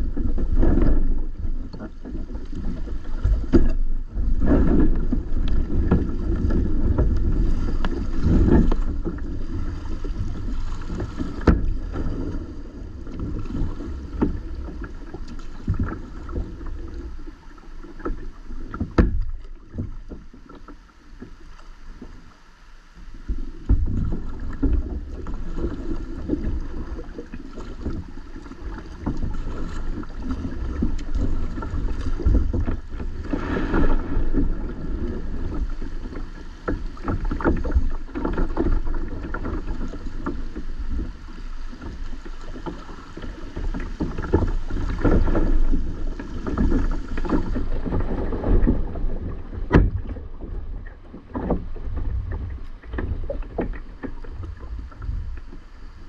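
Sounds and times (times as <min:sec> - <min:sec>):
knocks and clunks on a boat: 0:00.0 - 0:22.4, 0:23.1 - 0:56.0
wind and water rumble: 0:00.0 - 0:56.0.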